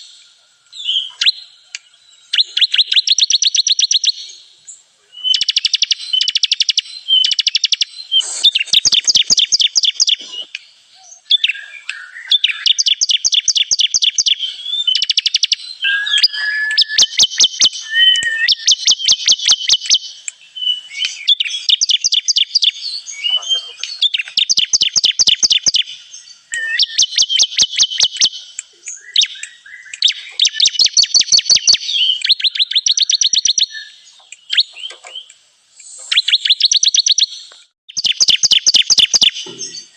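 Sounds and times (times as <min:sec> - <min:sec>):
bird song high trills: 0:00.0 - 0:39.9.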